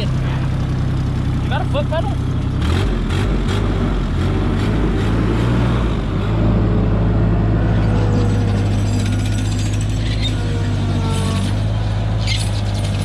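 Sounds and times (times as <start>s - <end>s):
small diesel engine running: 0.0s - 13.0s.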